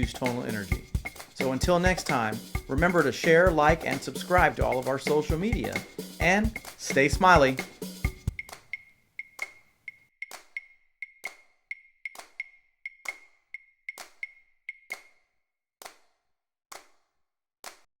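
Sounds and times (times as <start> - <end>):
wood block percussive clicks: 0.0 - 16.1.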